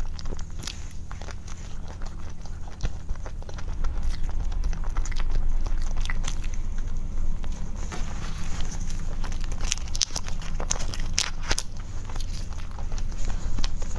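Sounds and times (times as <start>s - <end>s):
biting and chewing cake: 0.0s - 13.9s.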